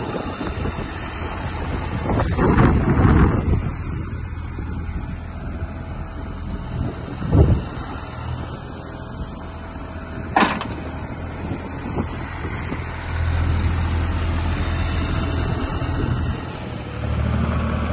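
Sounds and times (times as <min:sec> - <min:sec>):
excavator diesel engine running: 0:00.0 - 0:17.9.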